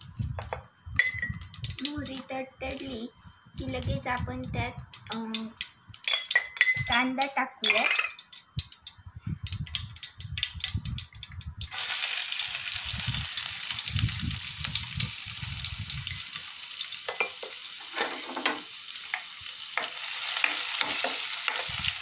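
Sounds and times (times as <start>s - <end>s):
onion sizzling in pan: 0.0s - 6.2s, 6.9s - 22.0s
seeds crackling in hot oil: 0.0s - 22.0s.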